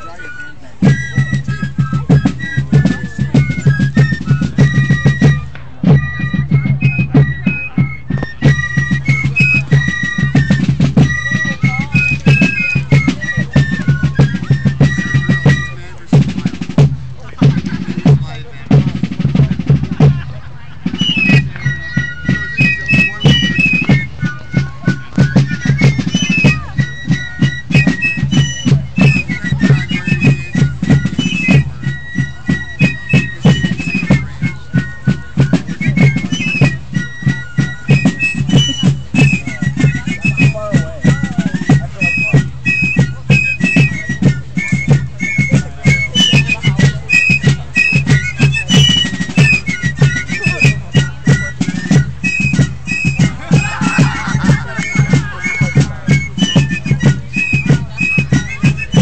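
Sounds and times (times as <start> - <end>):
piped melody: 0.0 - 59.0
quick drum beat: 0.8 - 59.0.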